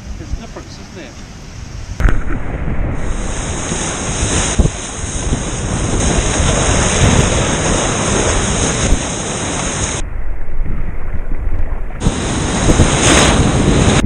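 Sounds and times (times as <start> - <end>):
wind buffeting microphone: 1.4 - 14.0
sharp splashes: 2.0 - 14.0
water rushing and splashing: 2.0 - 14.0.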